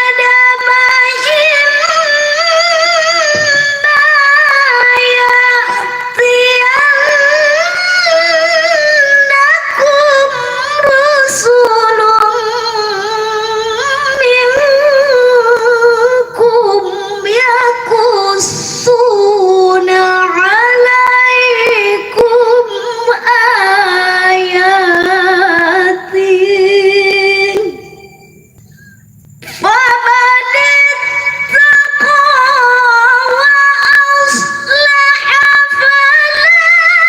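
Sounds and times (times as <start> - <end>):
person reciting melodically: 0.0 - 28.3, 29.4 - 37.0.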